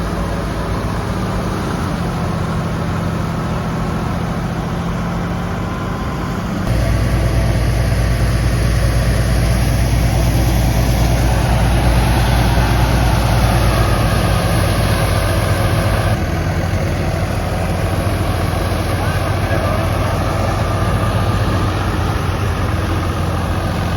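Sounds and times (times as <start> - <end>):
tractor engine humming: 0.0 - 23.9.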